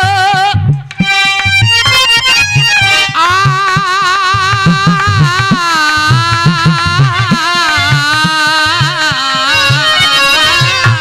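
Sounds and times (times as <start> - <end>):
hand drum beat: 0.0 - 11.0
man singing into a microphone: 0.0 - 11.0
reed keyboard chords: 0.8 - 11.0.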